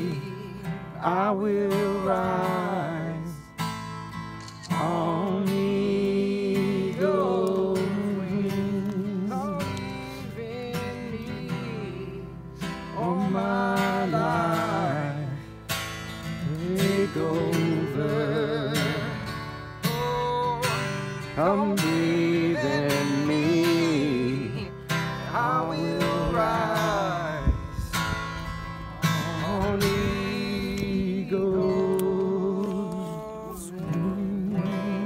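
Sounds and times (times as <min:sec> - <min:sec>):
man singing worship song: 0:00.0 - 0:03.6, 0:04.6 - 0:15.6, 0:16.4 - 0:28.1, 0:28.8 - 0:35.0
strummed acoustic guitar: 0:00.0 - 0:35.0.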